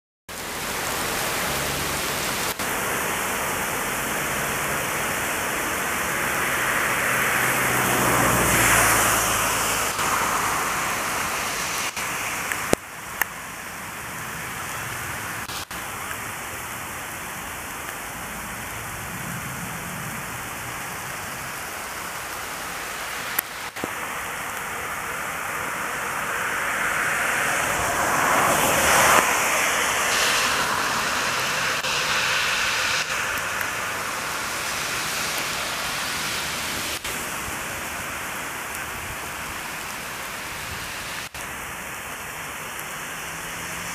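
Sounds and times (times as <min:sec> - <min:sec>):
rain falling: 0:00.3 - 0:43.9.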